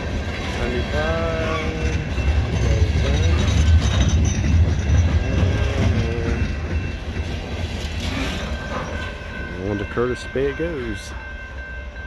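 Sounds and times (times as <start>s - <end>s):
freight cars rattling: 0.0s - 11.1s
freight cars rumbling on rails: 0.0s - 12.0s.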